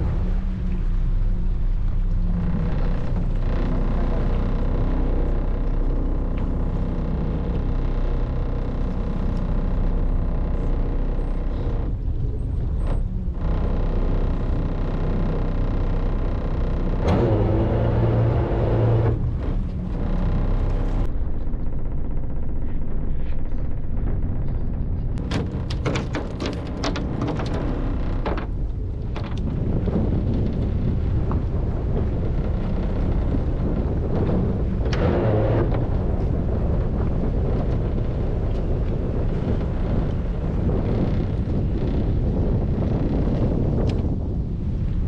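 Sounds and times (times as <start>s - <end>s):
boat engine rumbling: 0.0s - 45.0s.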